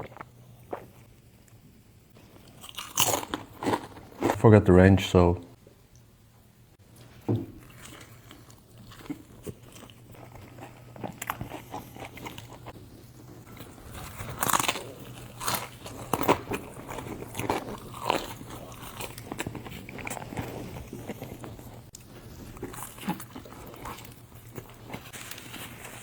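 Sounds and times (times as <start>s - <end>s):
person chewing crunchy food: 0.0s - 1.6s, 2.2s - 4.4s, 7.0s - 26.0s
faint steady hum: 0.0s - 26.0s.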